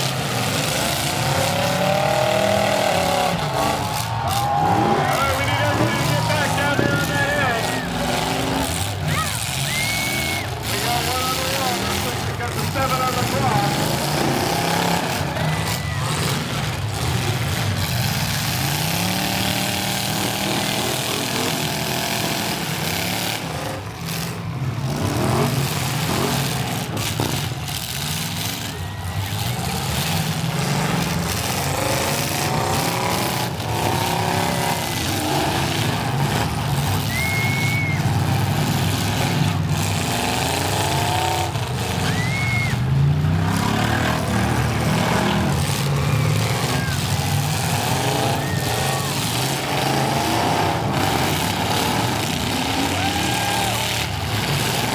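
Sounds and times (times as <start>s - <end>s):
arena crowd din: 0.0s - 54.9s
car engines revving hard: 0.0s - 54.9s.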